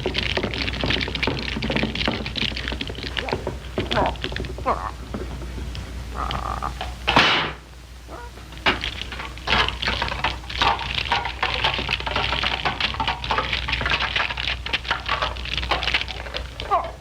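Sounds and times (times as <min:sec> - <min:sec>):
dense clattering and crackling: 0:00.0 - 0:17.0
steady low hum: 0:00.0 - 0:17.0.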